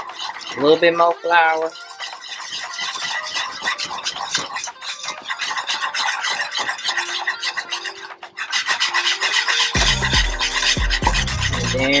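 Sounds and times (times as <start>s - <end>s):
whisk beating in metal saucepan: 0.0s - 12.0s.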